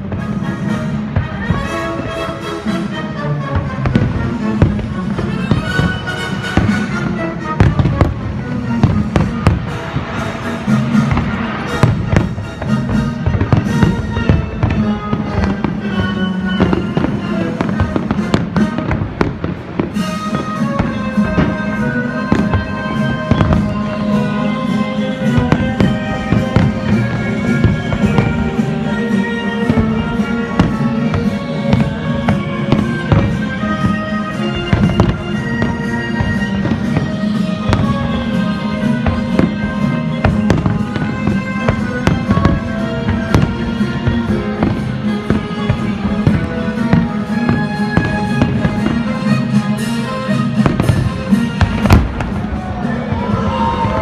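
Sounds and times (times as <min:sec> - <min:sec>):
fireworks bangs: 0:00.0 - 0:54.0
show music: 0:00.0 - 0:54.0.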